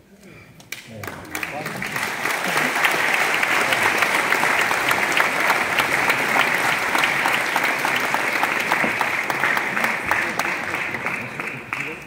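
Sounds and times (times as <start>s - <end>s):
audience applauding: 0.8s - 12.0s.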